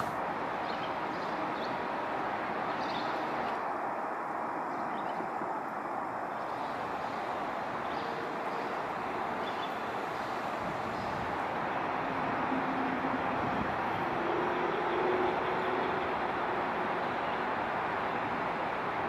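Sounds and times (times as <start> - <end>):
outdoor hiss and rumble: 0.0 - 19.0.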